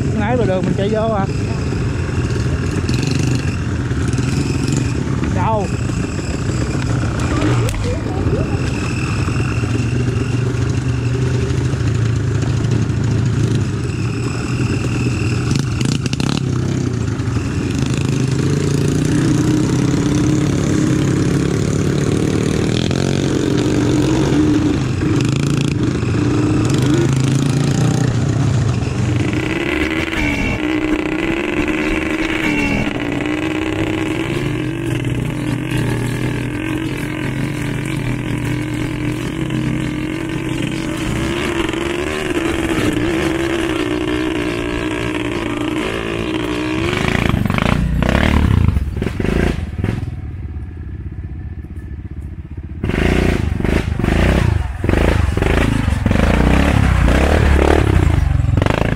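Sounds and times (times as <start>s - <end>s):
quad bike engine revving: 0.0s - 50.4s, 52.7s - 58.9s
quad bike engine running: 0.0s - 58.9s.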